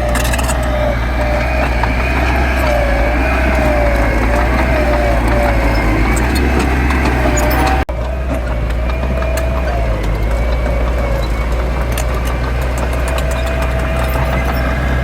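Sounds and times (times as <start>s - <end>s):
heavy diesel engine running: 0.0s - 15.0s
high wavering whine: 0.0s - 15.0s.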